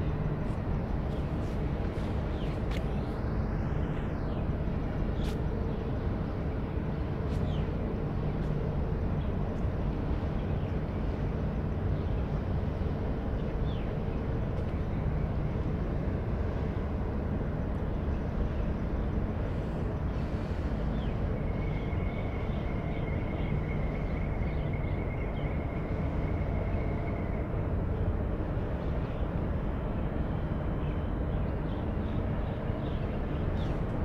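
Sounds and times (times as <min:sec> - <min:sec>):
ship machinery rumble: 0:00.0 - 0:34.0.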